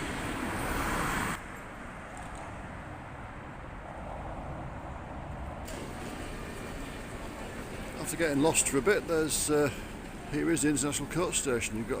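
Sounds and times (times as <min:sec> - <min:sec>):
muffled city traffic: 0:00.0 - 0:12.0.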